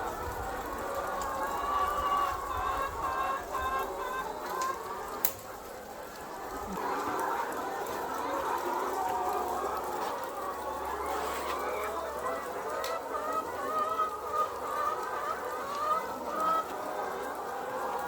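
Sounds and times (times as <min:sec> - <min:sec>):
hens clucking and calling: 0:00.0 - 0:18.0.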